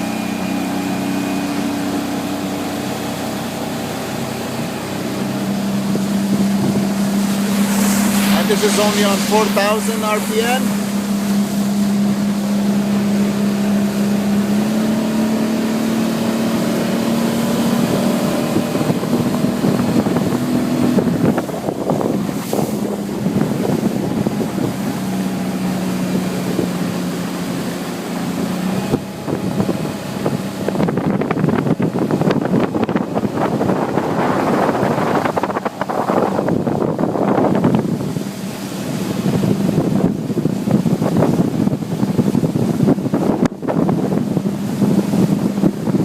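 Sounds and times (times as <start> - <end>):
outboard motor running: 0.0 - 46.0
rushing water: 0.0 - 46.0
wind on microphone: 0.0 - 46.0.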